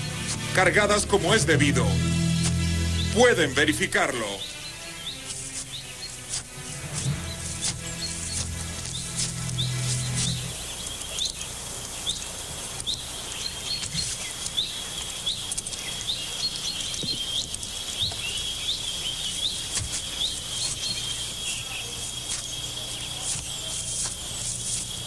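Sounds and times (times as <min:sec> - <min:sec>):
insect trill: 0:00.0 - 0:25.0.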